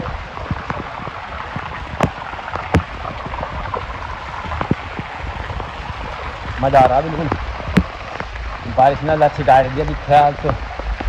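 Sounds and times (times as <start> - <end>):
heavy rain falling: 0.0 - 11.0
raindrops ticking close by: 0.0 - 11.0.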